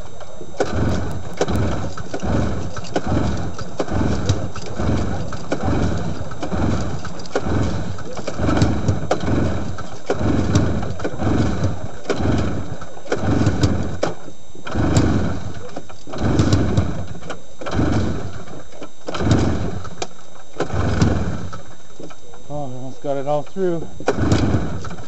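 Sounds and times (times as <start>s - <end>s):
engine cranked by pull-starter: 0.0s - 21.8s, 23.0s - 25.0s.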